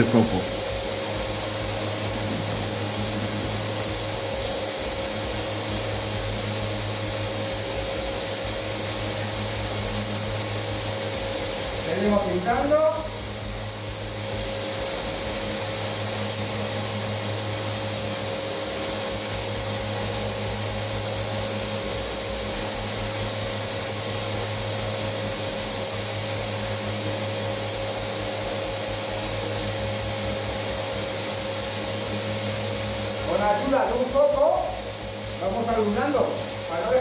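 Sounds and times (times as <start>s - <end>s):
electric motor and fan drone: 0.0s - 37.0s.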